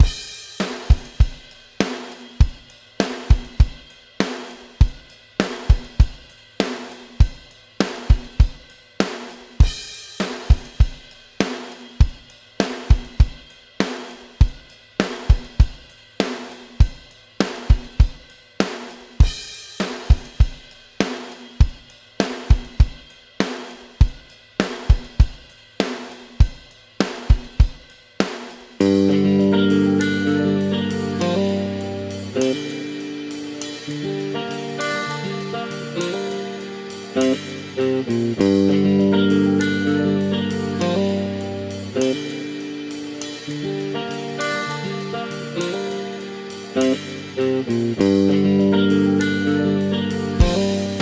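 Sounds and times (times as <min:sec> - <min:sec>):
drum kit rock beat: 0:00.0 - 0:51.0.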